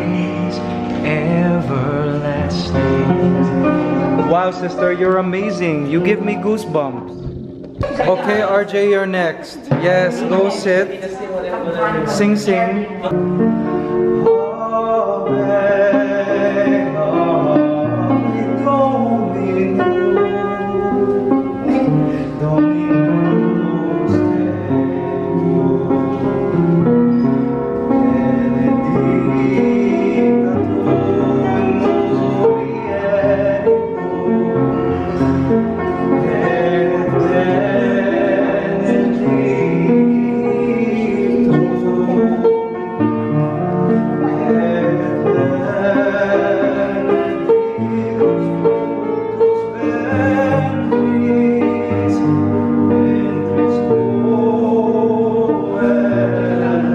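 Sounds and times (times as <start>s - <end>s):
man singing: 0.0s - 7.2s, 8.0s - 10.9s, 12.0s - 56.9s
upright piano chords: 0.0s - 56.9s.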